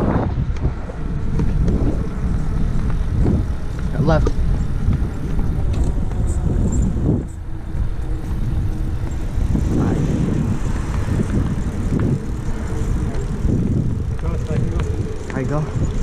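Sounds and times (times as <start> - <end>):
bicycle tire and road noise: 0.0 - 16.0
wind buffeting microphone: 0.0 - 16.0.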